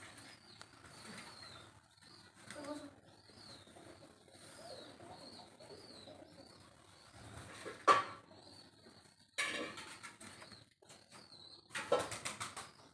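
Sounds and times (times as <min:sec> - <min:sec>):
birds calling softly: 0:00.0 - 0:12.9.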